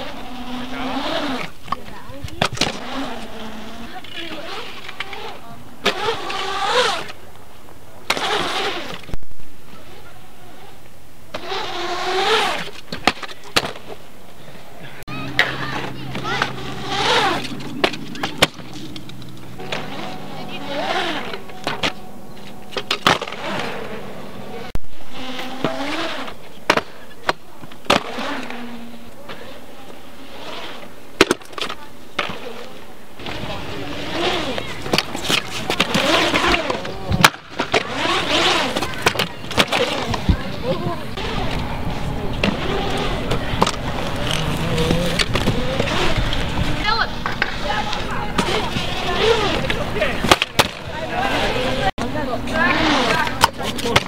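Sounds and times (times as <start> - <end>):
scooter wheels rolling on concrete: 0.0 - 54.0.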